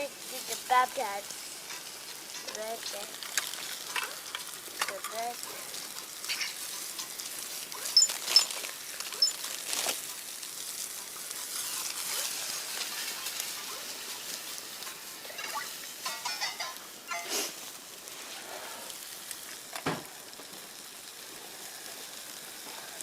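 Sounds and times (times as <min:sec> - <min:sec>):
burgers sizzling in a pan: 0:00.0 - 0:23.0.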